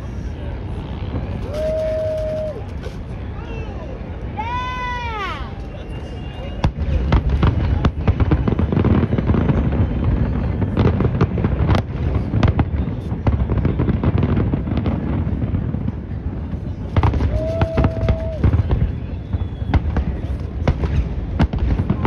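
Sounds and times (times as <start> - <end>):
firework cracks and bangs: 0.0 - 3.4, 6.6 - 22.0
fireworks deep rumble: 0.0 - 22.0.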